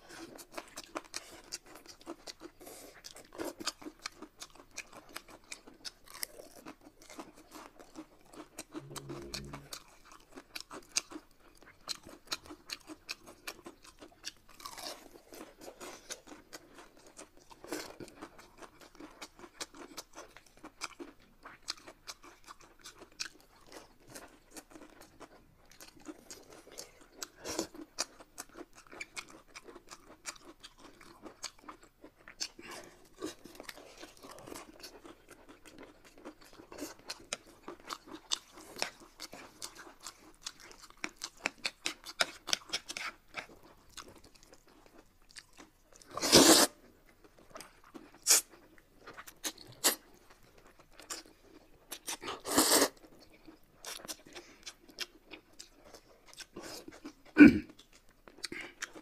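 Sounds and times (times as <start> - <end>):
chewing and crunching: 0.0 - 59.0.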